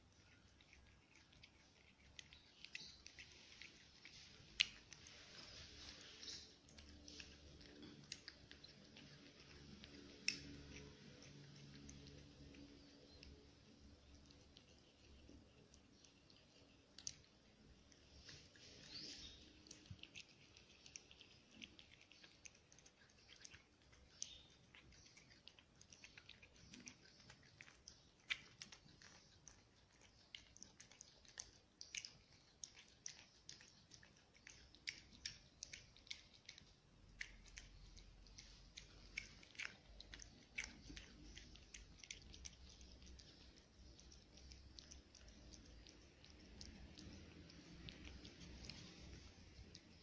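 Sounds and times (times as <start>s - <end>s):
cat chewing and licking: 0.0s - 50.0s.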